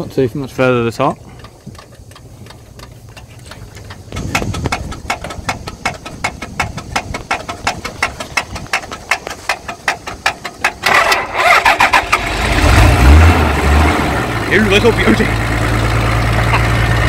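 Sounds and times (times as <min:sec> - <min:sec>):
diesel engine cranking on starter: 0:01.0 - 0:17.0.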